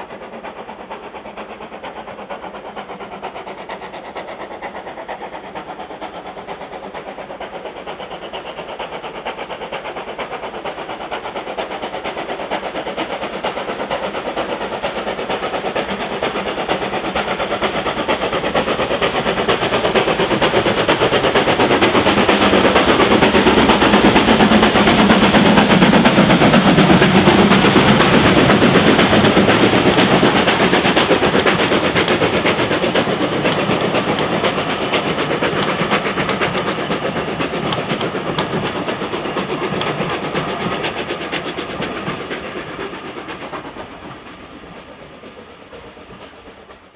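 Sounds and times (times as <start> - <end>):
steam locomotive passing: 0.0 - 46.9.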